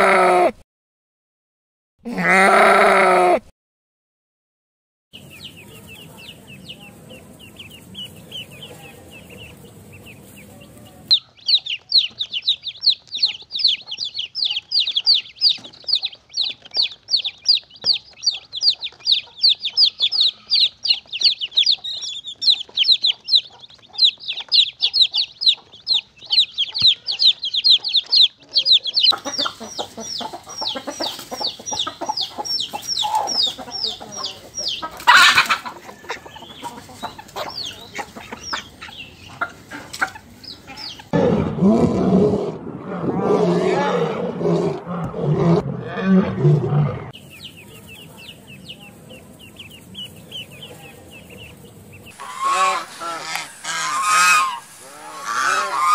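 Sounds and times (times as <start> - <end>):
chicks peeping: 5.2 - 41.6, 47.0 - 55.9
hens clucking: 5.2 - 42.7, 43.4 - 55.9.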